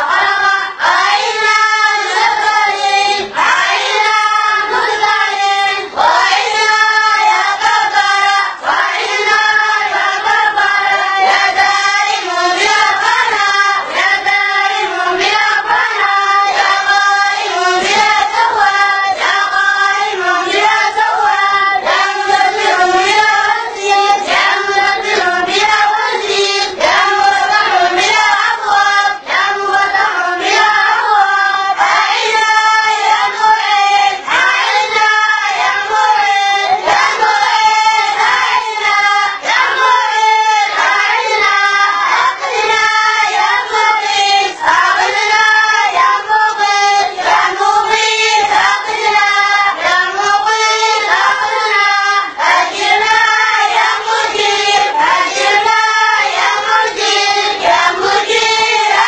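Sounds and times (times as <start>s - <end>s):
boys chanting in unison: 0.0s - 59.0s.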